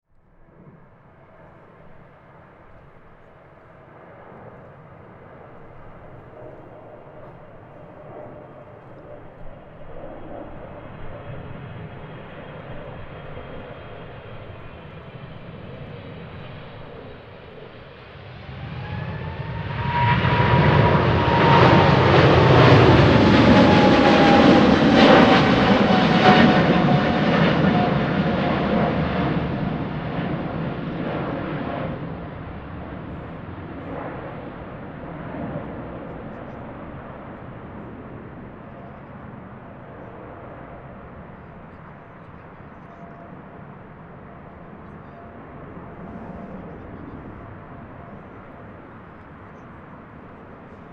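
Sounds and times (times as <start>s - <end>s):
jet passing low overhead: 0.1s - 50.9s.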